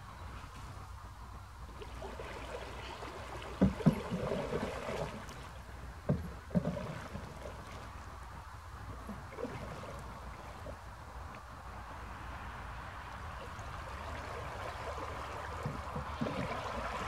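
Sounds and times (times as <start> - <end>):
paddle splashing and gurgling: 1.7 - 11.5, 13.1 - 17.0.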